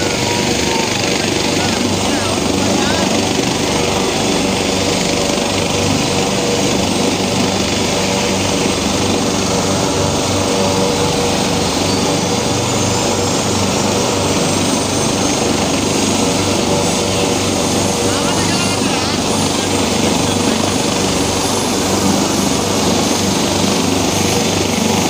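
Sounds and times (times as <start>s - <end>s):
helicopter turbine whine: 0.0s - 25.0s
rotor blades throbbing: 0.0s - 25.0s.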